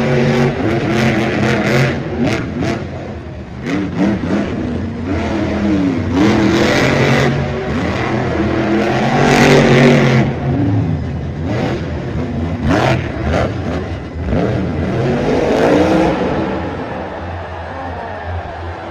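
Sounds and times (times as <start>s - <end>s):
monster truck engine revving: 0.0s - 18.9s.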